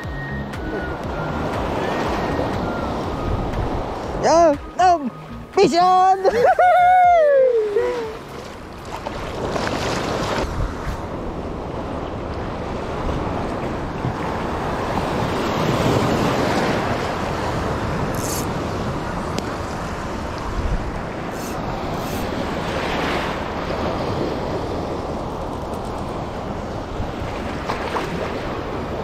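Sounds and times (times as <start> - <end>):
wind on microphone: 0.0 - 5.0, 8.9 - 29.0
sea waves washing: 0.0 - 29.0.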